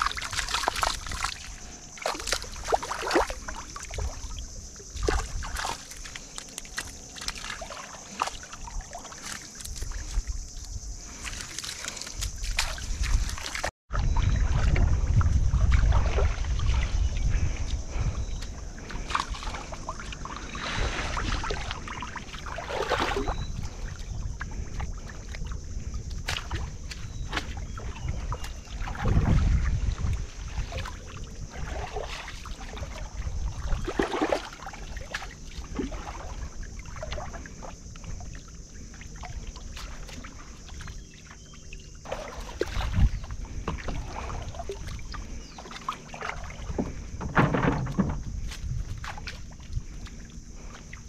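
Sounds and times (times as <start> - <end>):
river water splashing: 0.0 - 51.0.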